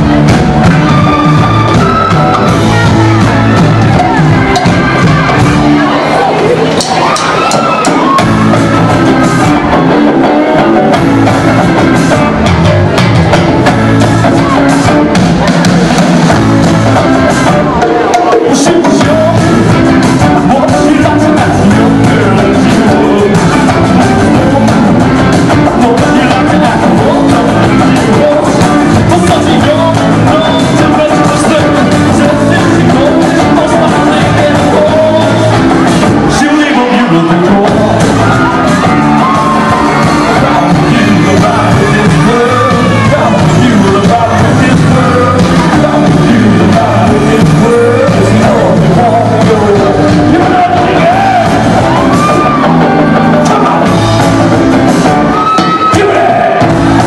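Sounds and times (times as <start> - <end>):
drums: 0.0 - 57.0
electric guitar: 0.0 - 57.0
rock band playing live: 0.0 - 57.0
man singing: 8.0 - 15.5, 16.3 - 57.0.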